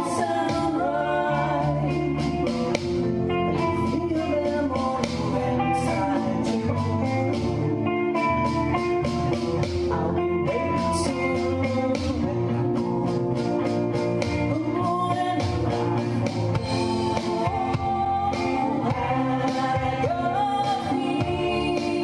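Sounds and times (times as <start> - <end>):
person singing: 0.0 - 7.6, 8.4 - 22.0
bass guitar: 0.0 - 22.0
drums: 0.0 - 22.0
electric guitars: 0.0 - 22.0.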